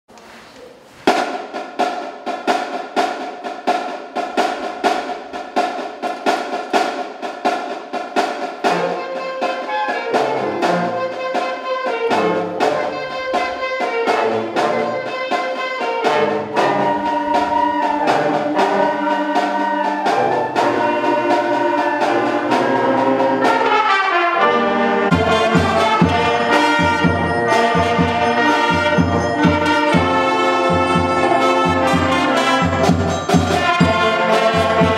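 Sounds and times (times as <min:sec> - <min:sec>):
steady percussive beat: 0:01.0 - 0:34.9
wind band playing: 0:04.4 - 0:34.9.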